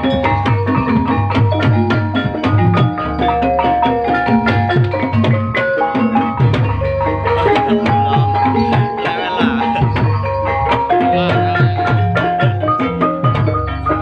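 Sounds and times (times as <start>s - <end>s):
metallophone tones: 0.0s - 14.0s.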